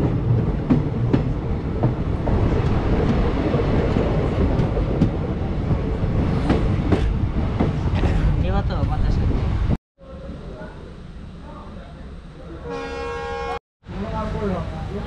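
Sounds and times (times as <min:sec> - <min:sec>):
train wheels rumbling: 0:00.0 - 0:12.7.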